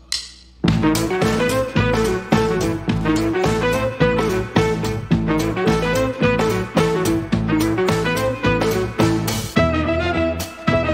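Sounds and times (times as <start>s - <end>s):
instrumental music with steady beat: 0.0s - 10.9s.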